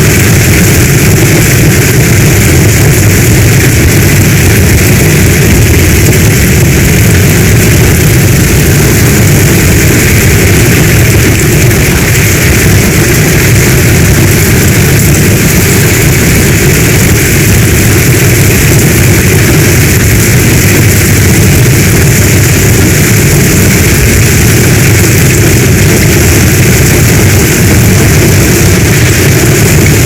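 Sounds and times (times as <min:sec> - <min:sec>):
deep continuous rumble: 0:00.0 - 0:30.0
heavy rain hissing: 0:00.0 - 0:30.0.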